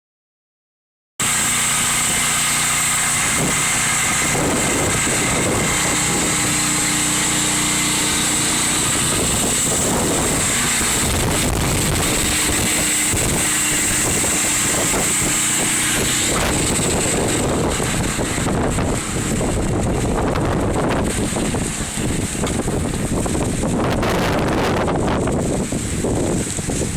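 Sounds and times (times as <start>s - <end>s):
strong wind buffeting microphone: 1.2s - 26.9s.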